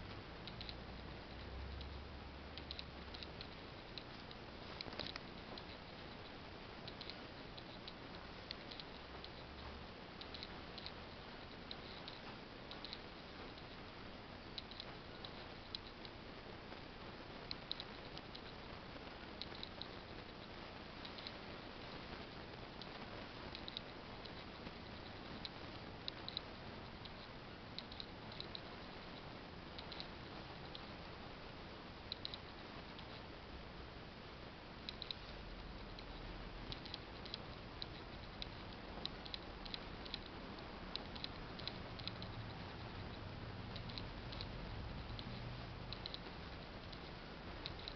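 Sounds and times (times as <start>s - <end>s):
steady hiss: 0.0s - 47.9s
small sharp clicks: 0.1s - 0.8s, 2.6s - 18.7s, 19.3s - 31.0s, 32.1s - 33.3s, 34.8s - 47.9s.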